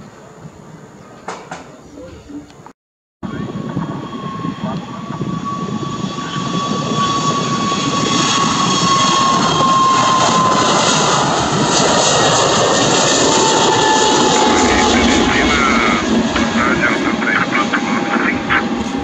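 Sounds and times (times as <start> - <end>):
jet engine roar: 3.2 - 19.0
jet engine whine: 3.2 - 19.0.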